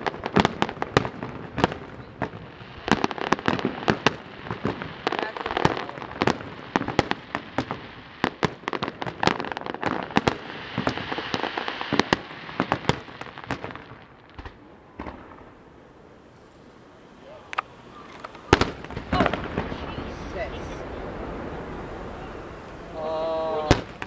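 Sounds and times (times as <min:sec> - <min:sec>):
fireworks bursting: 0:00.0 - 0:24.0
fireworks crackling: 0:00.0 - 0:24.0.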